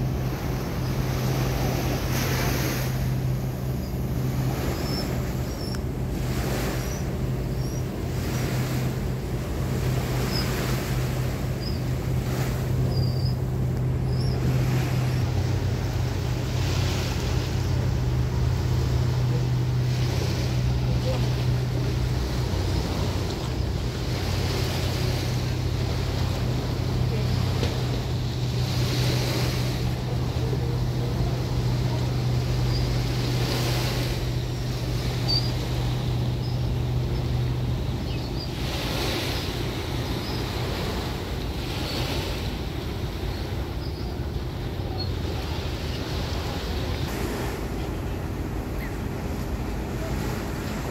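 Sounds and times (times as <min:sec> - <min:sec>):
boat engine droning: 0:00.0 - 0:50.9
water washing: 0:00.0 - 0:50.9
wind: 0:00.0 - 0:50.9.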